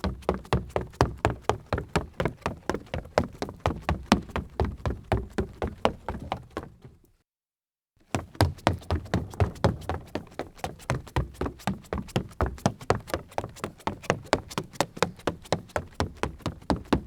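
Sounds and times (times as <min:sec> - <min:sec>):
sneakers running on wooden floor: 0:00.0 - 0:06.9, 0:08.1 - 0:17.0.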